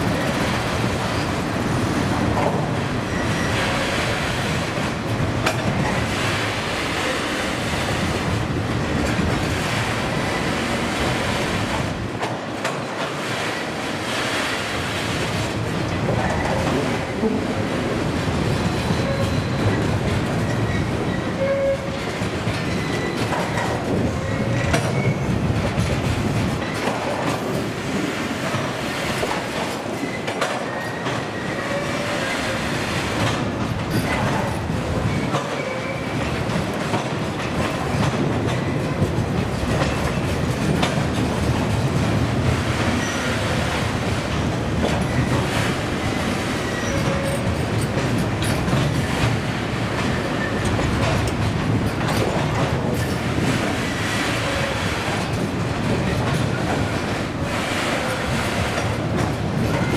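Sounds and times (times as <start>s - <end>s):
freight train wheels clicking: 0.0s - 59.9s.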